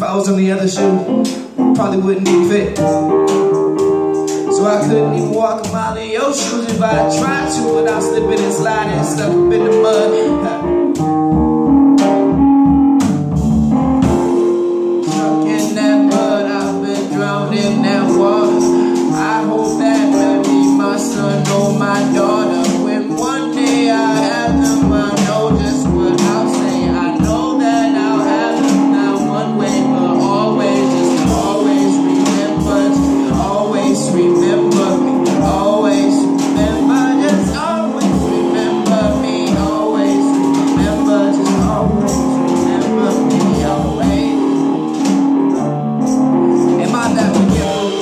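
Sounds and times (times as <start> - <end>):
electric guitar: 0.0 - 48.0
grand piano: 0.0 - 48.0
drums and cymbals: 1.2 - 10.2, 10.9 - 48.0.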